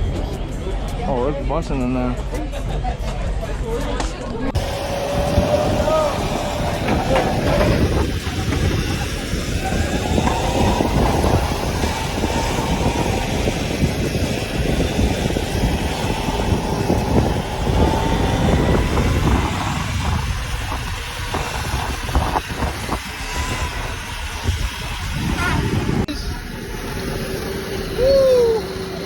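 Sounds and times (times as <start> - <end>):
rushing wind: 4.3 - 29.0
electric motor whine: 4.6 - 29.0.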